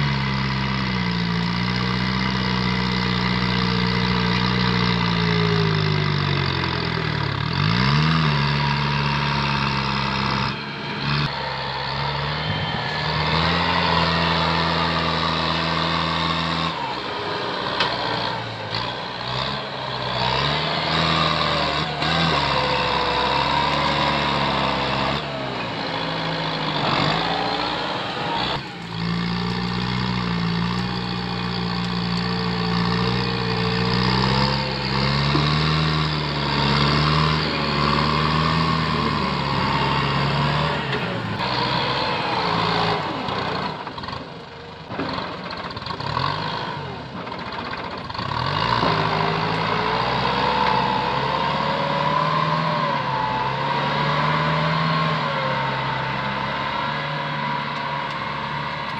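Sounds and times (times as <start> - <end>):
tractor diesel engine under load: 0.0 - 58.9.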